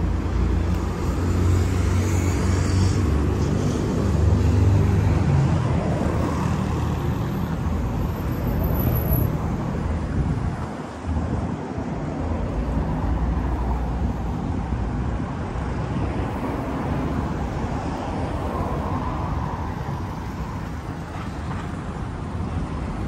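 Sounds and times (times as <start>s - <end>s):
cars passing on busy road: 0.0s - 23.0s.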